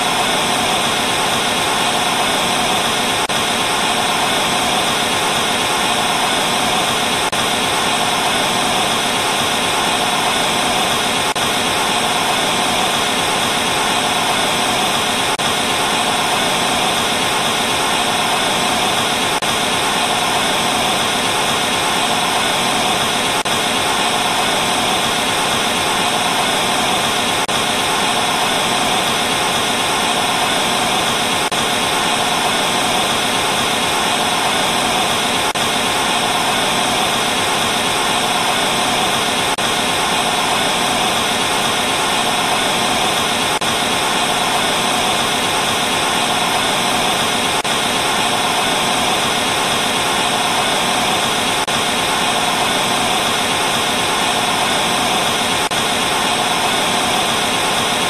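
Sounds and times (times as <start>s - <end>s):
tv static hiss: 0.0s - 58.0s.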